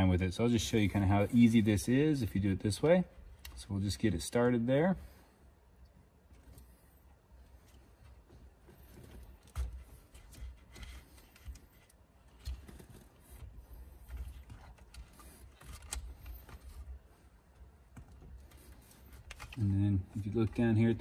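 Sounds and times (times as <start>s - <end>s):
wires clicking and rustling: 0.6s - 4.6s, 5.8s - 21.0s.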